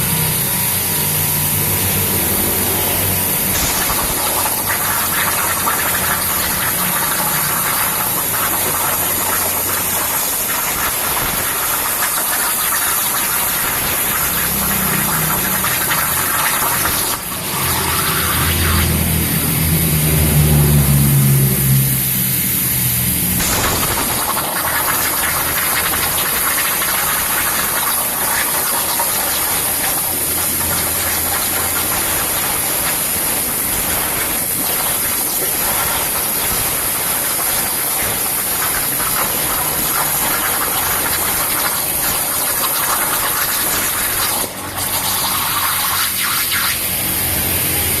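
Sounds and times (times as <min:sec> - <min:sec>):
metal-cutting machine hissing: 0:00.0 - 0:48.0.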